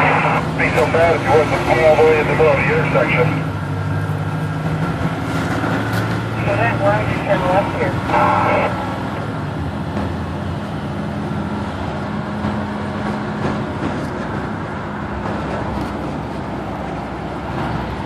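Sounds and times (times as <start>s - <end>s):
bus engine humming: 0.0s - 18.0s
road and body noise: 0.0s - 18.0s.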